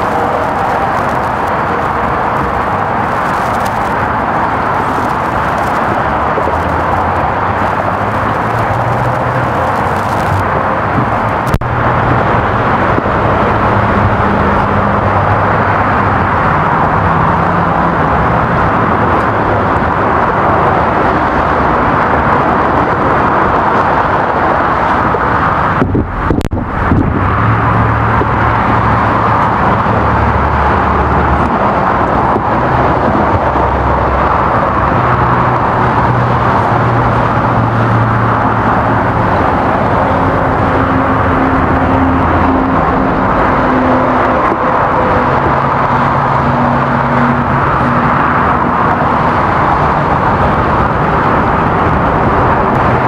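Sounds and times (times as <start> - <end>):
freeway traffic roar: 0.0 - 53.0.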